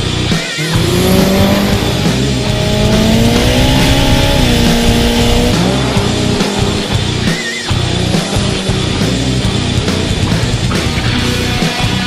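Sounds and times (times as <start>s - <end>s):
car engine accelerating: 0.0s - 12.0s
rock music with electric guitar: 0.0s - 12.0s.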